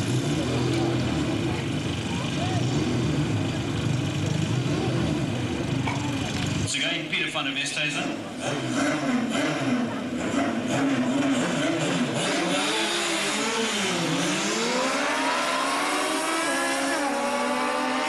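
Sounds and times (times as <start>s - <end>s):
motorcycle engine revving and accelerating: 0.0s - 6.7s, 8.0s - 18.0s.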